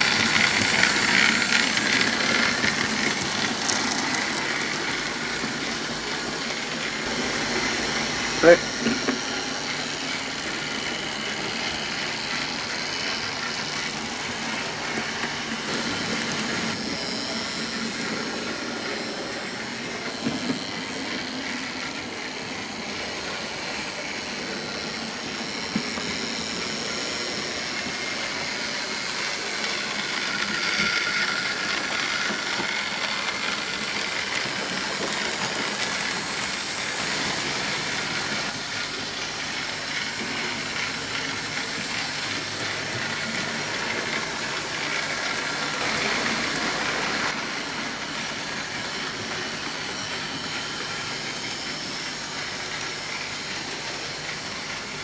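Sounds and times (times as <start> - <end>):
electric motor hum: 0.0 - 55.0.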